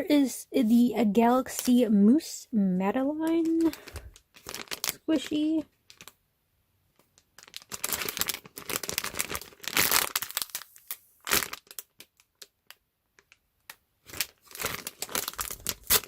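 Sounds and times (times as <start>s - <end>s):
crinkly plastic packaging: 0.7s - 6.2s, 7.0s - 16.0s.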